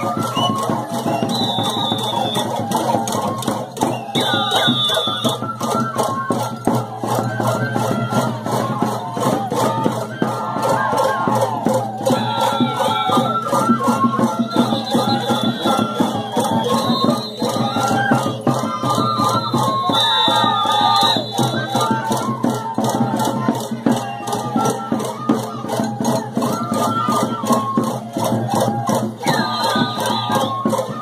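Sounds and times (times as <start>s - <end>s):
percussion beat: 0.0s - 31.0s.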